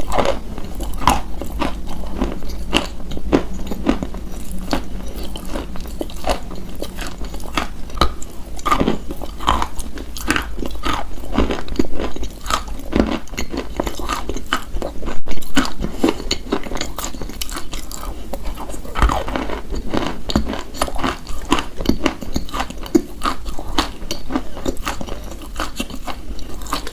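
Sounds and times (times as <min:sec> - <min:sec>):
crunchy chewing: 0:00.0 - 0:26.9.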